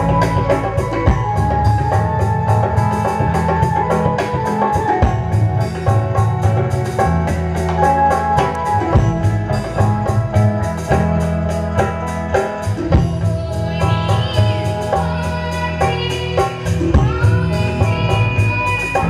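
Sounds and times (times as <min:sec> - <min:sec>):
drum kit beat: 0:00.0 - 0:19.0
live band music: 0:00.0 - 0:19.0.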